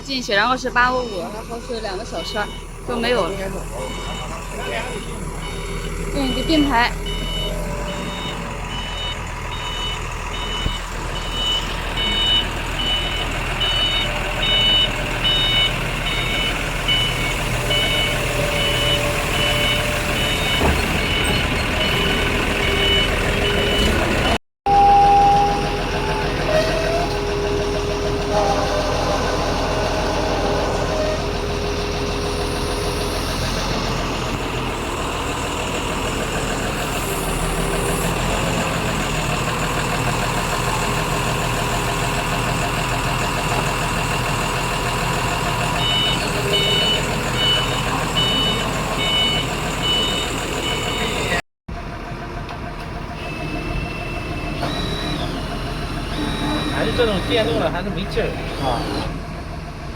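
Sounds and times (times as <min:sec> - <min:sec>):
vehicle engine running: 0:00.0 - 0:59.9
reversing alarm beeping: 0:00.1 - 0:51.4, 0:53.2 - 0:59.2.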